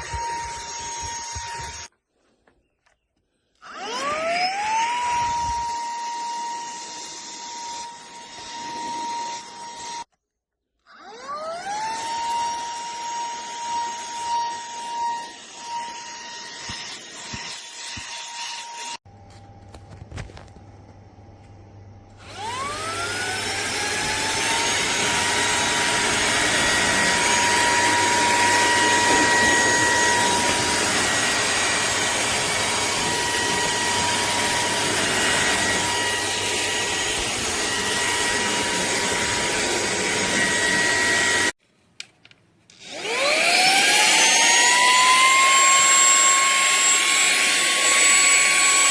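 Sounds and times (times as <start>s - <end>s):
handheld vacuum motor whining: 0.0s - 1.9s, 3.6s - 10.1s, 10.9s - 19.0s, 22.2s - 41.6s, 42.7s - 48.9s.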